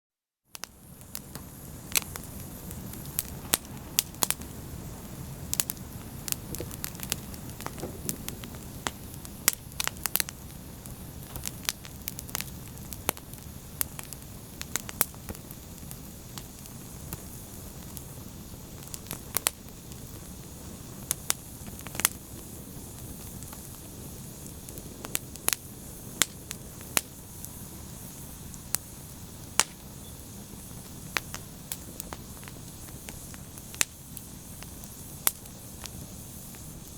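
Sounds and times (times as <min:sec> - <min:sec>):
fire crackling and popping: 0:00.5 - 0:36.9.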